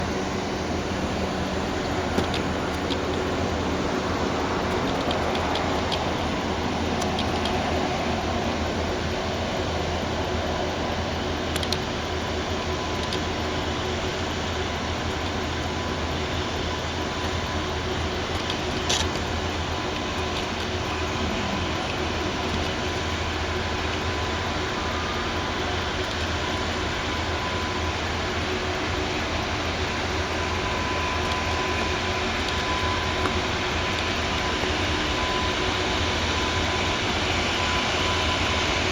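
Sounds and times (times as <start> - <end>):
freight train rumble: 0.0 - 38.9.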